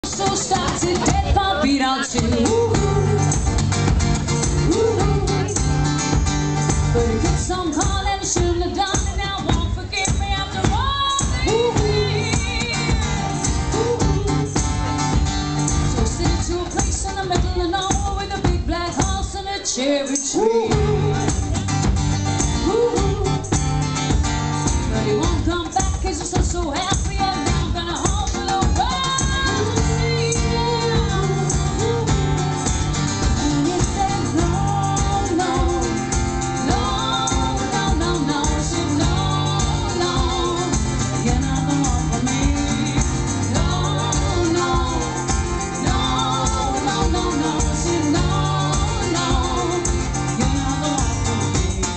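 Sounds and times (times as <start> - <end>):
woman and man singing: 0.0 - 3.8, 4.4 - 21.7, 22.4 - 23.8, 24.8 - 51.9
strummed acoustic guitar: 0.0 - 19.4, 20.5 - 51.9.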